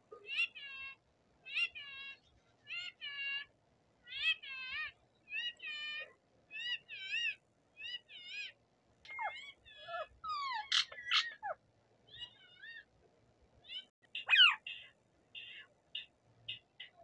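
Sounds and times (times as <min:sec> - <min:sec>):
parakeet calling: 0:00.2 - 0:12.9, 0:13.6 - 0:17.0.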